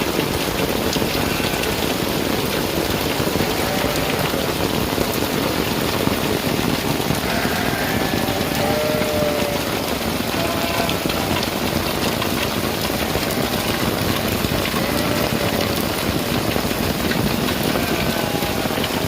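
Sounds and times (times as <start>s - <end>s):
rain pattering on surfaces: 0.0s - 19.0s.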